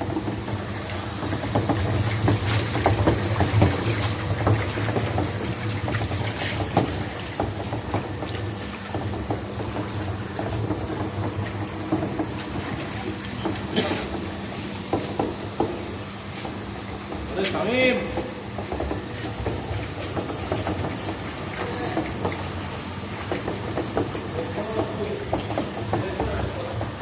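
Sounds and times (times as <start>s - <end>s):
steady machine hum: 0.0s - 27.0s
water spraying on metal coil: 0.0s - 27.0s.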